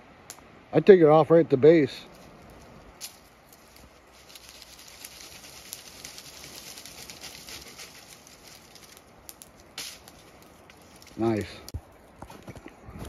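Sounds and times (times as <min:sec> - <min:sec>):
twigs crackling and rustling: 0:02.0 - 0:12.8.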